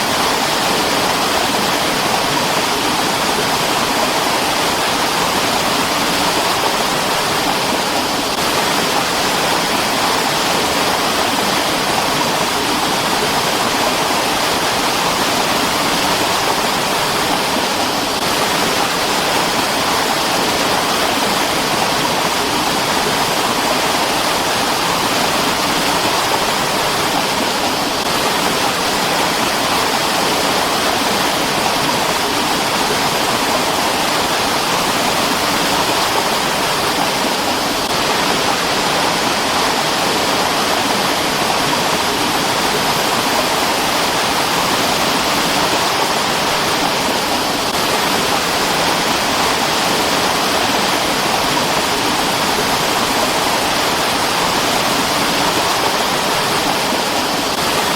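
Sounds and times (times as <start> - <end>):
mountain stream rushing: 0.0 - 57.9.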